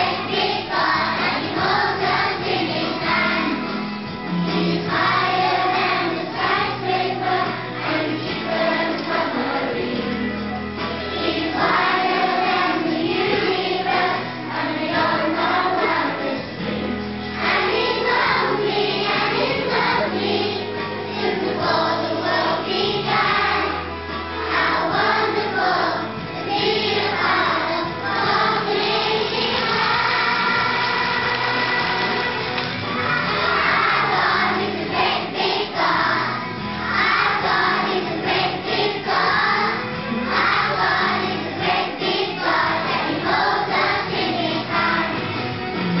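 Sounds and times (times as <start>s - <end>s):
children singing together: 0.0s - 45.8s.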